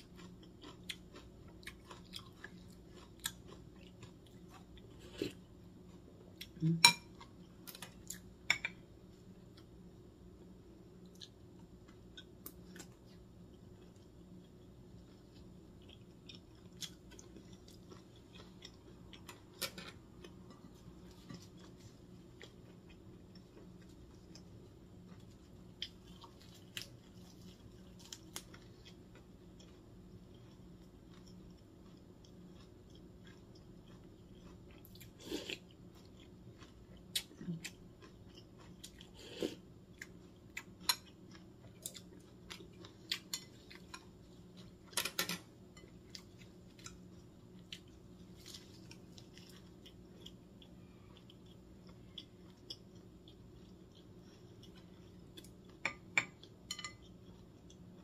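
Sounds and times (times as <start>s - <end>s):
faint low hum: 0.0s - 58.0s
person chewing: 0.0s - 58.0s.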